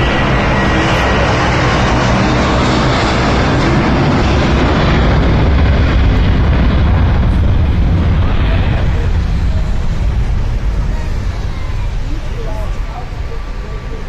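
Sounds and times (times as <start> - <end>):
jet engines at takeoff thrust: 0.0 - 14.0.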